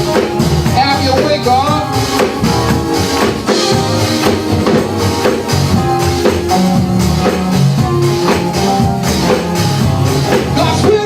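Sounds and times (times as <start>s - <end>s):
bass notes: 0.0s - 11.0s
church band playing gospel: 0.0s - 11.0s
drum kit steady beat: 0.0s - 11.0s.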